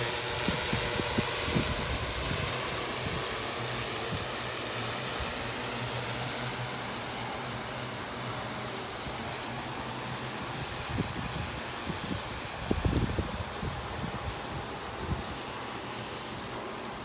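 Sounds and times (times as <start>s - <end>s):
drone rotors humming: 0.0s - 17.0s
steady hiss: 0.0s - 17.0s.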